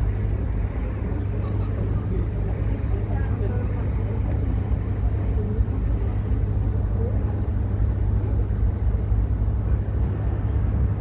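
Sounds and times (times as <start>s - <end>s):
faint voices: 0.0s - 11.0s
steady low rumble: 0.0s - 11.0s.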